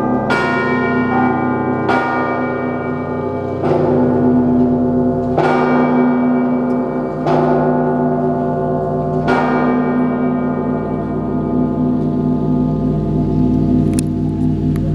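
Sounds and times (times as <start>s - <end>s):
large church bells ringing: 0.0s - 14.9s.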